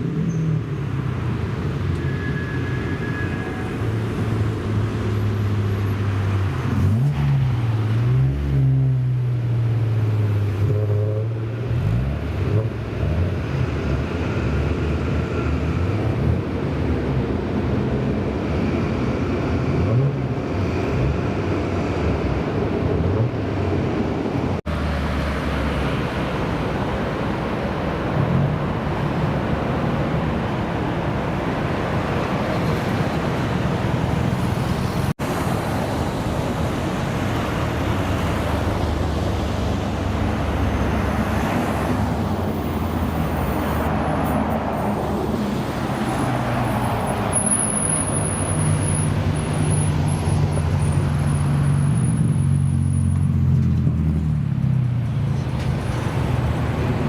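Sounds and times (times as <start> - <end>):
car engines revving: 0.0 - 57.0
traffic rumble: 0.0 - 57.0.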